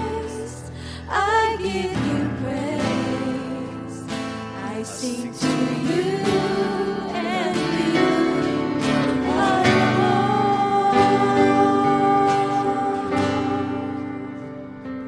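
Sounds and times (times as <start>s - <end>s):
guitar accompaniment: 0.0s - 15.0s
person singing worship melody: 0.0s - 15.0s.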